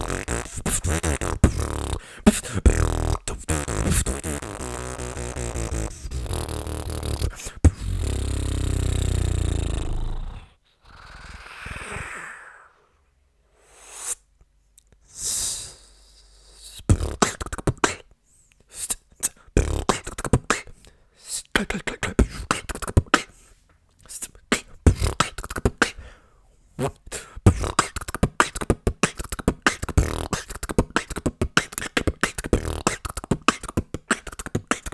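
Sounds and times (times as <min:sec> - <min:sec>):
beatboxing humming bass: 0:00.0 - 0:12.0, 0:15.4 - 0:18.1, 0:18.7 - 0:20.8, 0:21.4 - 0:23.3, 0:24.0 - 0:26.0, 0:26.8 - 0:34.9
beatboxing hissing sounds: 0:00.0 - 0:12.8, 0:13.5 - 0:14.3, 0:15.0 - 0:23.4, 0:24.0 - 0:26.2, 0:26.8 - 0:34.9
percussive mouth sounds: 0:00.0 - 0:12.9, 0:13.6 - 0:26.2, 0:26.8 - 0:34.9.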